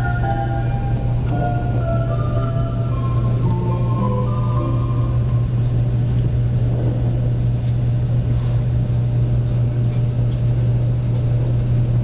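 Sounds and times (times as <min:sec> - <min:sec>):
train cabin hum: 0:00.0 - 0:12.0
wheels rumbling on rails: 0:00.0 - 0:12.0.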